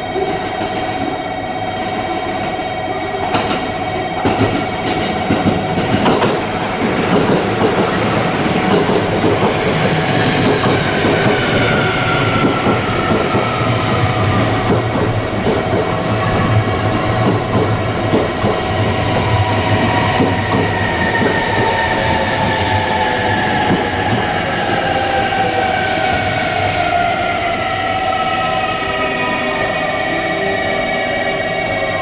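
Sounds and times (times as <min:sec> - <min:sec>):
train whine falling in pitch: 0:00.0 - 0:32.0
train wheel rumble: 0:00.1 - 0:29.2.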